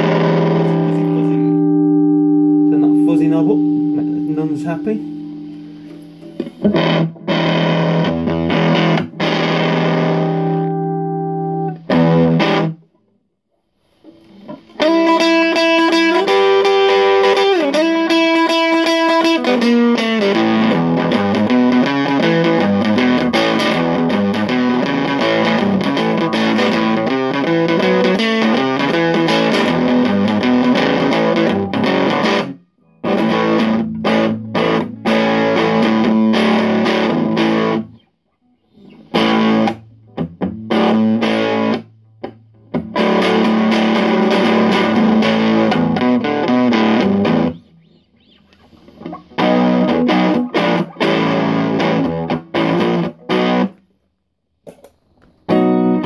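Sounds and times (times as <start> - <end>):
distorted electric guitar riffs: 0.0 - 12.9, 14.0 - 38.1, 38.7 - 53.8, 55.3 - 56.0.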